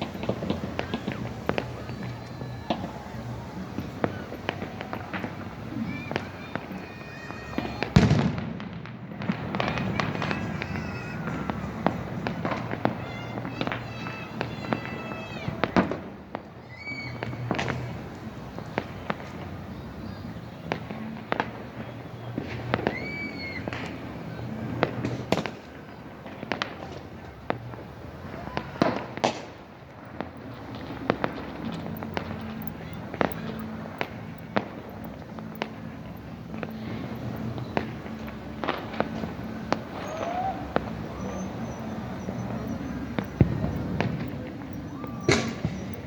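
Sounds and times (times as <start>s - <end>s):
fireworks bangs and cracks: 0.0s - 46.0s
fireworks whistling: 0.0s - 46.0s.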